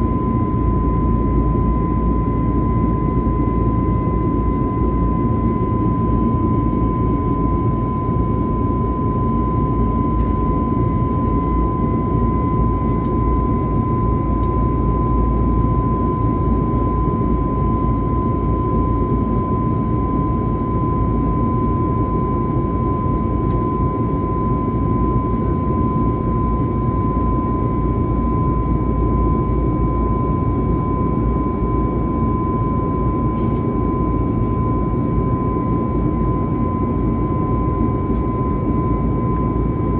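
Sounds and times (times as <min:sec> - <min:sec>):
airplane cabin deep rumble: 0:00.0 - 0:39.9
jet engine high whine: 0:00.0 - 0:39.9.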